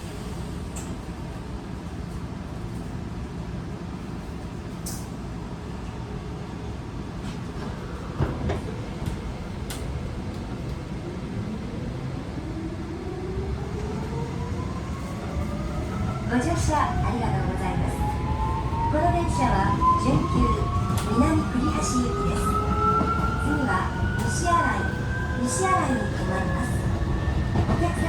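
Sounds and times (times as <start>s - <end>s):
train interior rumble: 0.0s - 28.0s.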